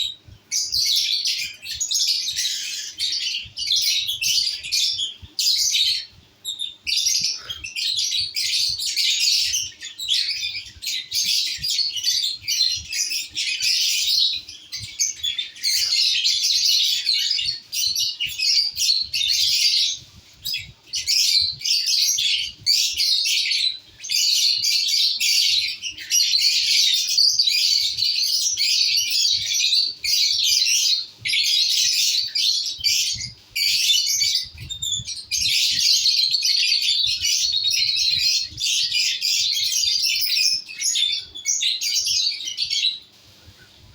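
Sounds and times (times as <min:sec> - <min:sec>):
lovebirds chirping and squawking: 0:00.0 - 0:43.9.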